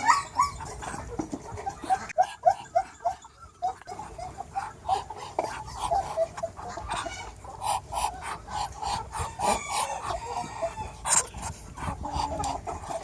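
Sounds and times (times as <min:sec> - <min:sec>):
chickens and roosters clucking: 0:00.0 - 0:13.0.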